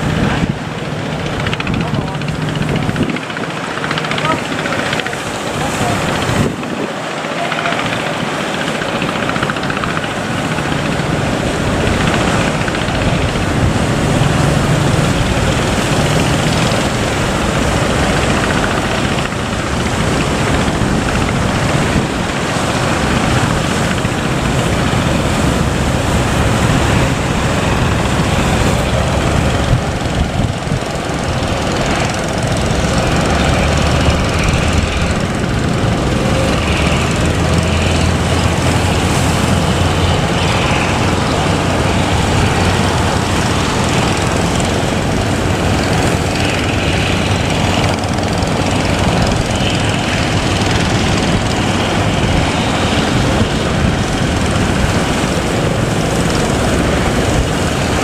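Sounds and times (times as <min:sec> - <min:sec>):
boat engines running: 0:00.0 - 0:58.0
continuous wash of noise: 0:00.0 - 0:58.0.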